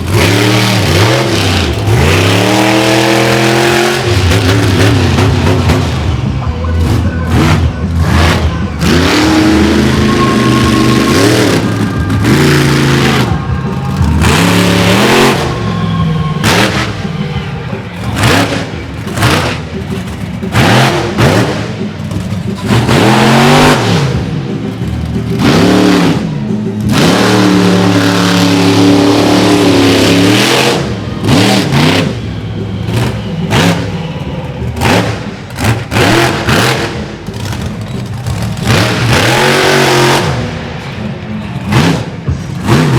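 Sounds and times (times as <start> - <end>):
monster truck engine revving: 0.0 - 42.9
music: 0.0 - 42.9.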